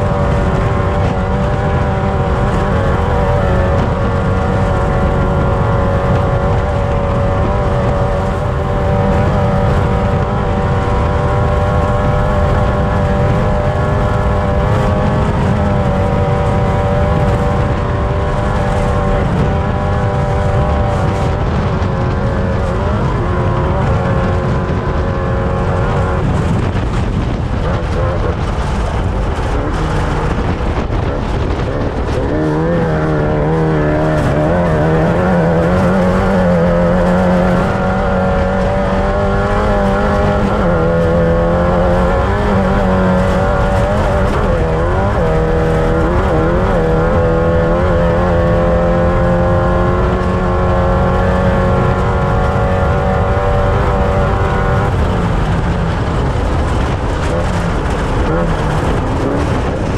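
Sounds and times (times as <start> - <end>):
race vehicle engine running hard: 0.0 - 59.9.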